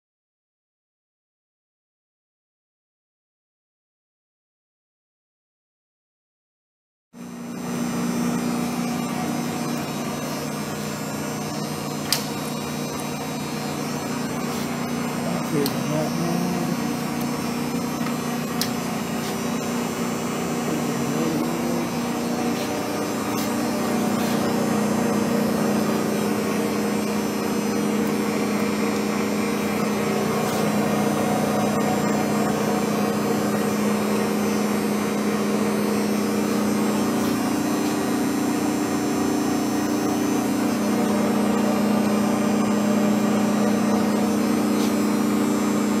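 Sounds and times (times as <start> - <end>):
lathe machine hum: 7.2 - 46.0.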